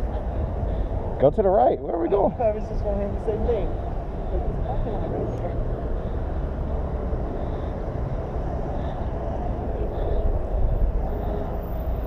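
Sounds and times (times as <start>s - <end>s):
motorcycle rumbling: 0.0s - 12.0s.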